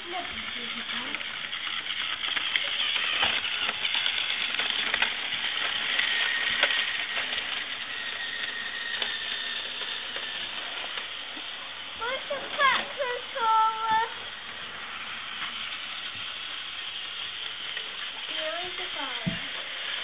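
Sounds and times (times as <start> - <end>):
toy train motor whirring: 0.0 - 20.0
wheels clicking on plastic track: 0.0 - 20.0.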